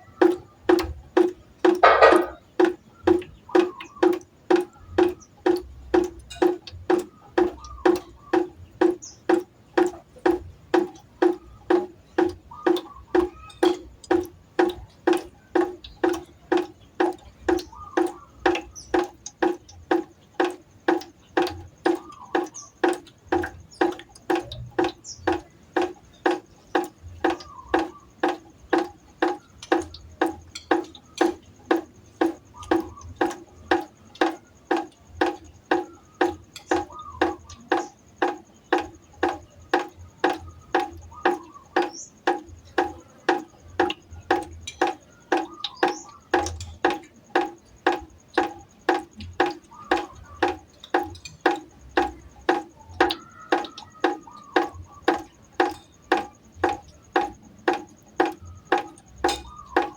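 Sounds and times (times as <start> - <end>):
water drops plinking into pot: 0.0 - 59.9.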